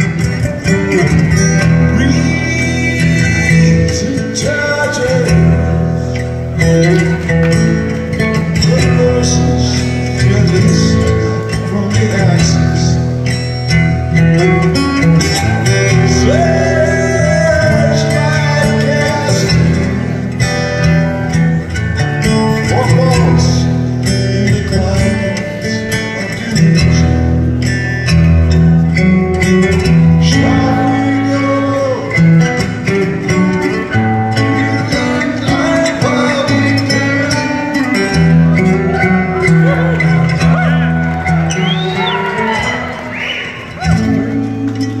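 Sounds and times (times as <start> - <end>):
acoustic guitar chords: 0.0 - 45.0.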